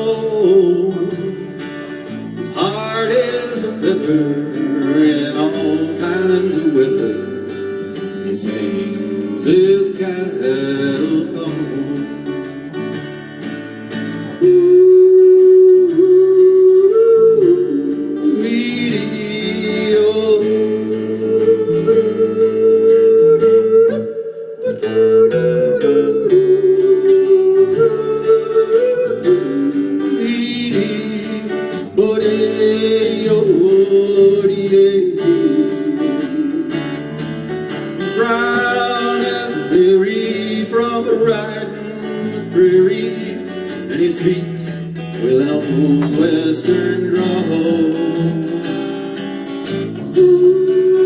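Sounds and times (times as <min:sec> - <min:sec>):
country band playing: 0:00.0 - 0:23.9, 0:24.6 - 0:51.0.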